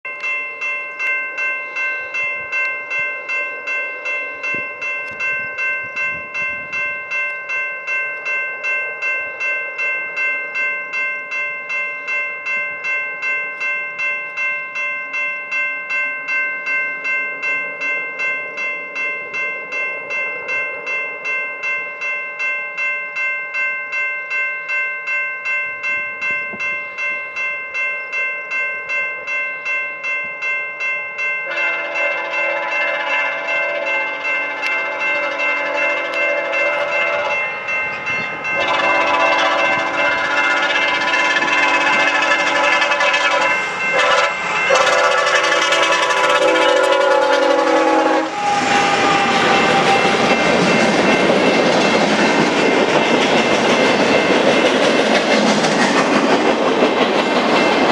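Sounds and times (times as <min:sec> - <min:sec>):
railroad crossing bell ringing: 0:00.0 - 0:57.9.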